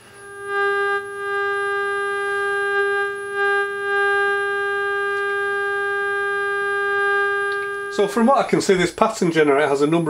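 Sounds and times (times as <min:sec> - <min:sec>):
buzzy test tone: 0:00.0 - 0:10.0.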